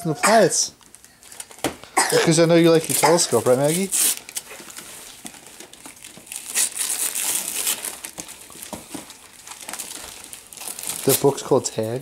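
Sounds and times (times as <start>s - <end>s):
wrapping paper tearing and crinkling: 0.8s - 12.0s.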